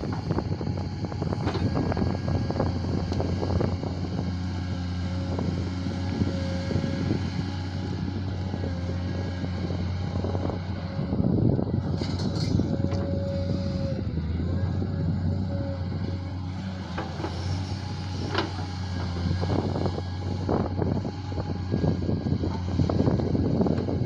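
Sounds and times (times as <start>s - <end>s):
digger diesel engine running: 0.0s - 24.0s.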